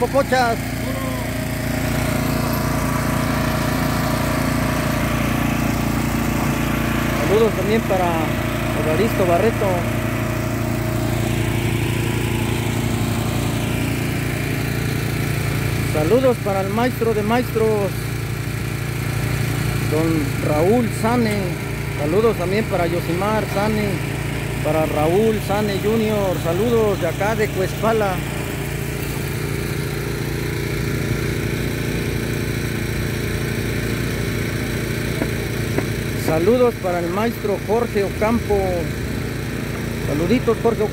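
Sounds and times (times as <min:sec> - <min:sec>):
small gasoline engine running: 0:00.0 - 0:40.9.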